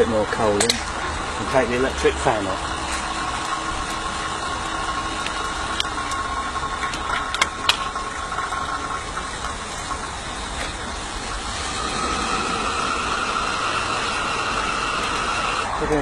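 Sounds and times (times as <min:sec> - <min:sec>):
steam locomotive hiss and whirr: 0:00.0 - 0:16.0.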